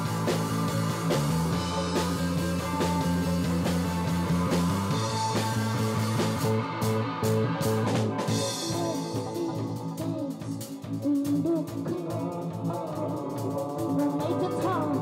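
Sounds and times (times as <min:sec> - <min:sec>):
bass guitar: 0:00.0 - 0:15.0
drum kit: 0:00.0 - 0:15.0
electric guitar chords: 0:00.0 - 0:15.0.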